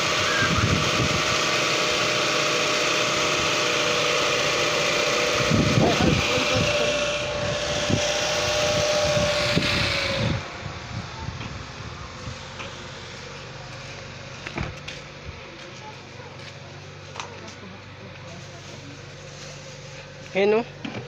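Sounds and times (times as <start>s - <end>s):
car engine idling: 0.0s - 21.0s
steady whine: 0.0s - 21.0s.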